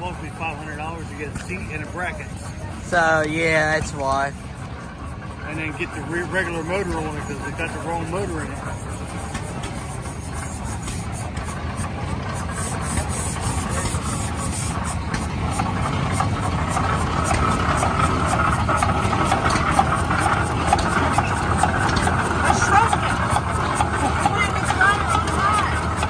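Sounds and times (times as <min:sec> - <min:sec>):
steam traction engine running: 0:00.0 - 0:26.0.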